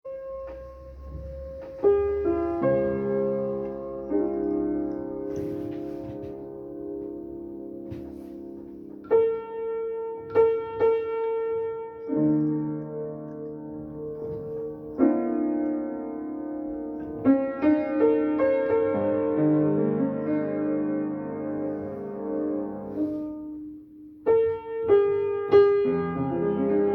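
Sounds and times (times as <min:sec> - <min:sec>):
solo piano chords: 0:00.0 - 0:26.9.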